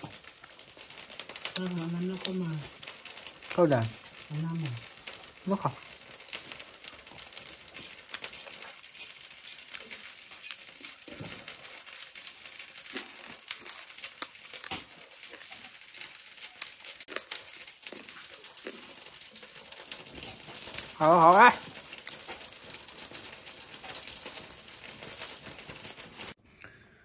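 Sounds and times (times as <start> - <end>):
chewing crisp fried food: 0.0 - 26.4.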